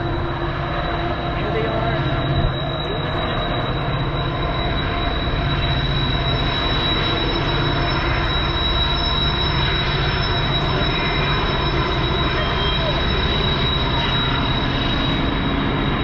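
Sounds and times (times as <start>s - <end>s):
high wheel squeal: 0.0s - 16.0s
train cars rumbling: 0.0s - 16.0s.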